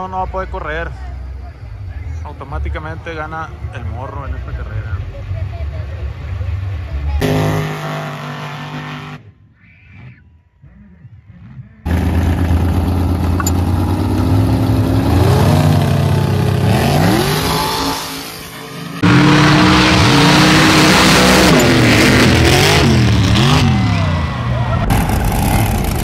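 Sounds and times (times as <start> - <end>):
truck engines revving: 0.0 - 26.0.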